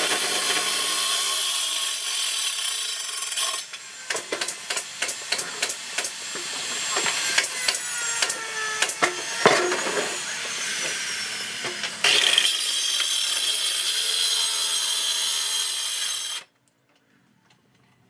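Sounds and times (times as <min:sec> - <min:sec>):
circular saw cutting wood: 0:00.0 - 0:16.5.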